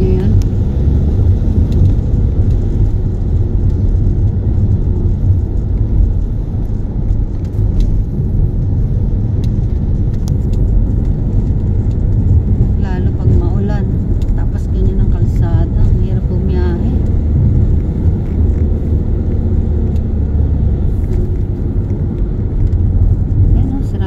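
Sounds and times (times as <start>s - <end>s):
car driving on wet road: 0.0s - 24.0s.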